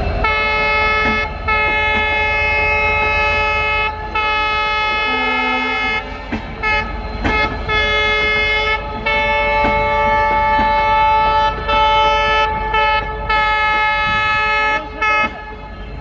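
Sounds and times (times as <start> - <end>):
train rumbling past: 0.0 - 16.0
locomotive air horn blasts: 0.2 - 16.0.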